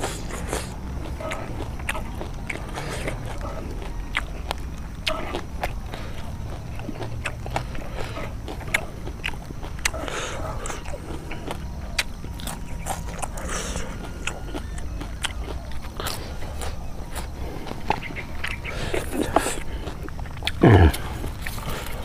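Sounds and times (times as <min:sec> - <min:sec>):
person chewing crisp vegetables: 0:00.0 - 0:22.0.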